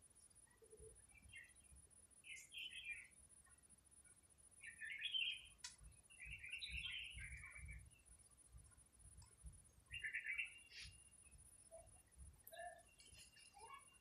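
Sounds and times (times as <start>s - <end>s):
birds chirping: 0.2s - 14.0s.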